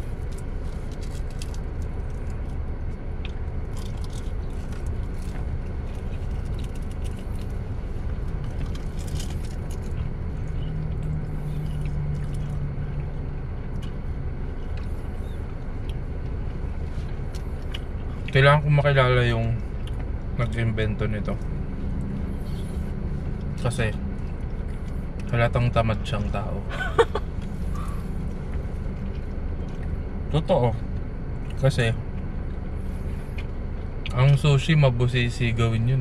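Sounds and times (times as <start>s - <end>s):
chewing with mouth clicks: 0.0s - 20.6s, 21.2s - 26.4s, 27.0s - 34.6s
car engine idling: 0.0s - 36.0s.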